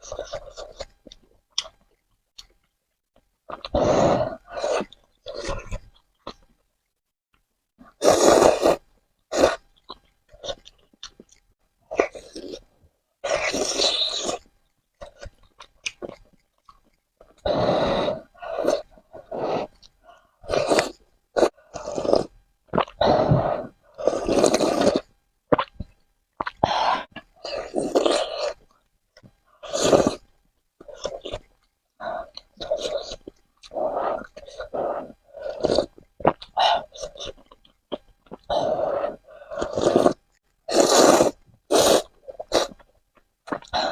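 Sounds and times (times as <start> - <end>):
person chewing noodles: 0.0 - 2.8, 3.4 - 7.0, 7.8 - 43.9.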